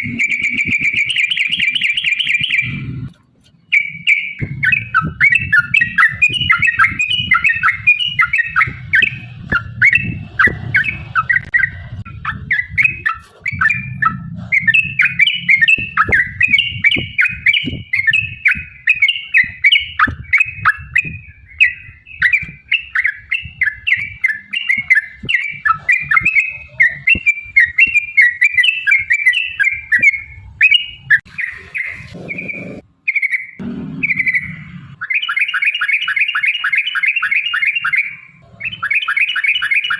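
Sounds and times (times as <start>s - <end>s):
bulbul fast chirping song: 0.0s - 39.9s.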